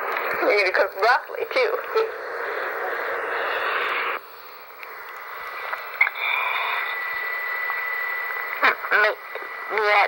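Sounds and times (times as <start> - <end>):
cassette tape hiss: 0.0 - 10.0
thin steady whine: 0.0 - 10.0.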